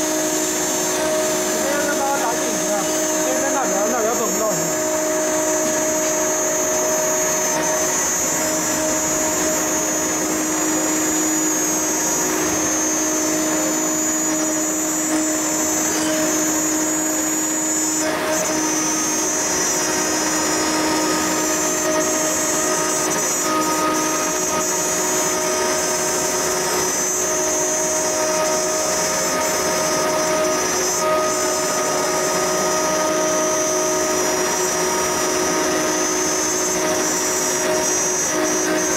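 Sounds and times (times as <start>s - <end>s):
metal cutting noise: 0.0s - 38.9s
router spindle whining: 0.0s - 38.9s.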